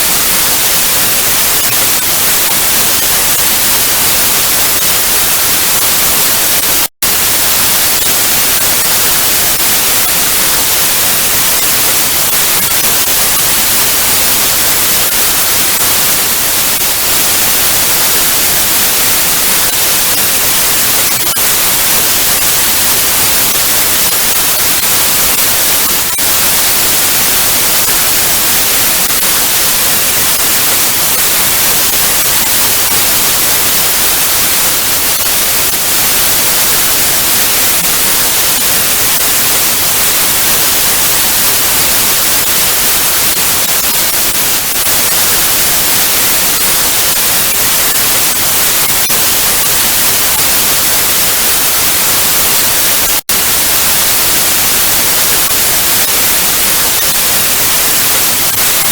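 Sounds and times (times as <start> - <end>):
tv static hiss: 0.0 - 58.9.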